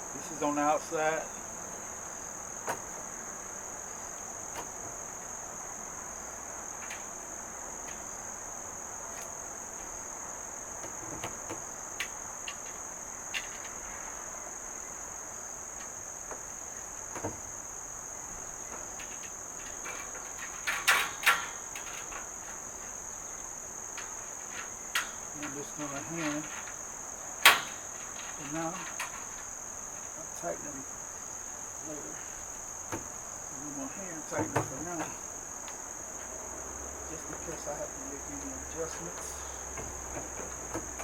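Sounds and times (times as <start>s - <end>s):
cricket chorus: 0.0s - 41.0s.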